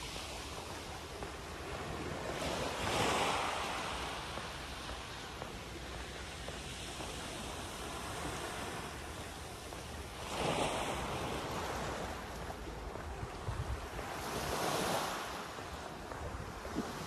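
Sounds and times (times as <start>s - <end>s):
waves washing against seawall: 0.0s - 17.0s
wind buffeting microphone: 0.0s - 17.0s.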